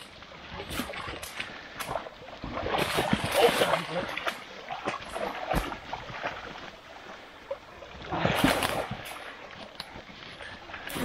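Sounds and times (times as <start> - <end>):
creek water splashing and sloshing: 0.0 - 11.0.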